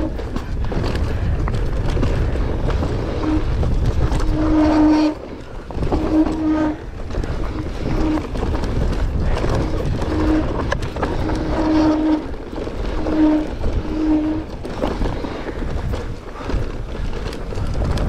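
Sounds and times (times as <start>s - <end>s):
bike tyre rumble: 0.0s - 18.0s
wind: 0.0s - 18.0s.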